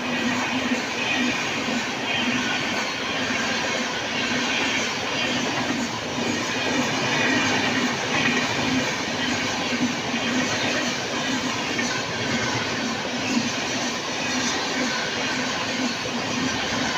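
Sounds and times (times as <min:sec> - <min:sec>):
train passing at high speed: 0:00.0 - 0:16.9.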